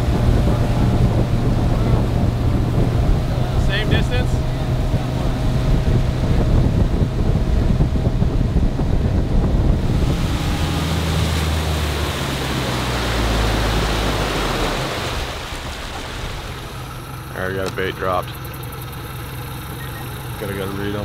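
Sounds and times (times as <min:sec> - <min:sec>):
boat motor running: 0:00.0 - 0:21.0
rushing water: 0:00.0 - 0:21.0
wind: 0:00.0 - 0:21.0.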